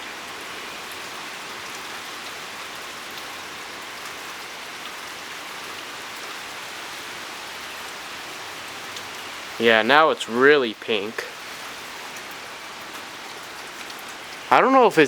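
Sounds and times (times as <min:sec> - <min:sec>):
rain falling: 0:00.0 - 0:15.0
rain drop ticks: 0:00.9 - 0:06.4, 0:07.5 - 0:15.0.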